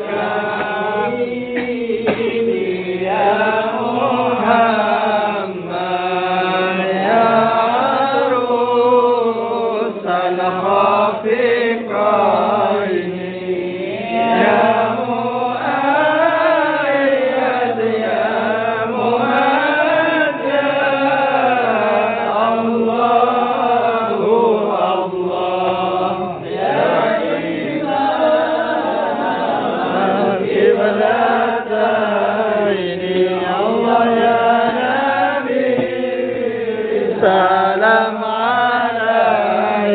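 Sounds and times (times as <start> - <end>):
men chanting devotional song: 0.0 - 39.9.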